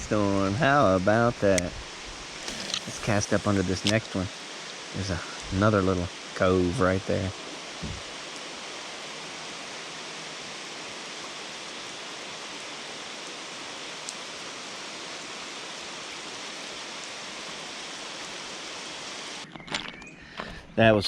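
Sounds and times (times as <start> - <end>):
rain falling on river: 1.9 - 19.4.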